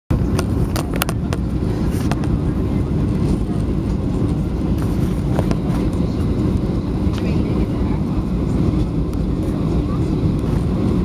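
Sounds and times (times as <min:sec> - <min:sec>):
airplane cabin roar: 0:00.1 - 0:11.0.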